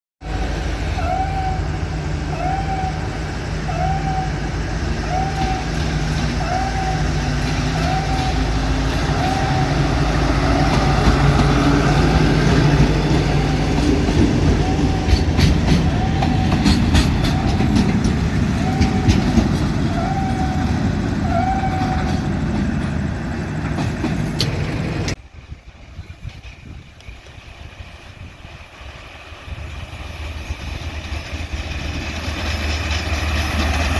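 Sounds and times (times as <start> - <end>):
diesel train engine running: 0.2 - 33.9
wheels clicking on rail joints: 1.4 - 33.9.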